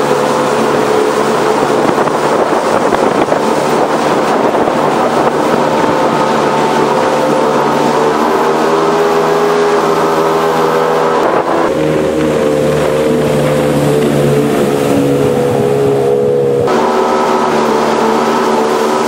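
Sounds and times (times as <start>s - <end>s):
boat engine running at speed: 0.0s - 19.0s.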